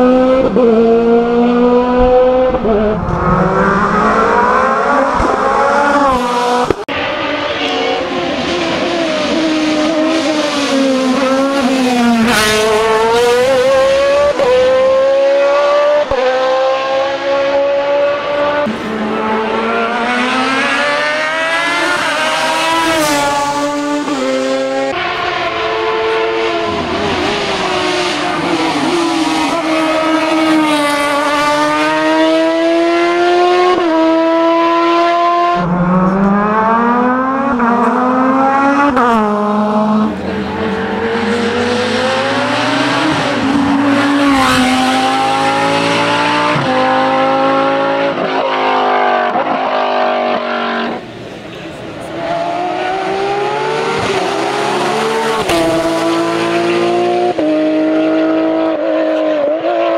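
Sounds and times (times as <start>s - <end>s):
racing car engines accelerating: 0.0s - 59.9s.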